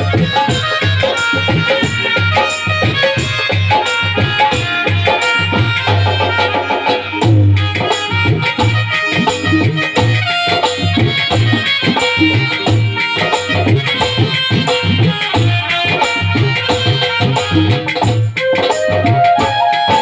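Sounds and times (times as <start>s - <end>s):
electronic keyboard melody: 0.0s - 20.0s
tabla and percussion rhythm: 0.0s - 20.0s.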